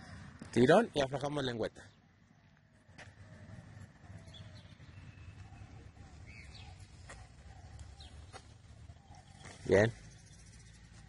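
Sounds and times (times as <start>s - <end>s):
bird chirps: 1.8s - 11.0s.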